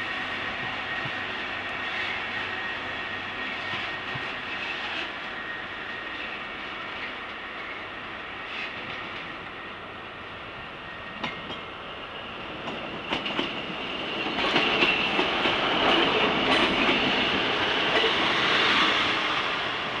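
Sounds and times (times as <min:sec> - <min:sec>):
train passing rumble: 0:00.0 - 0:20.0.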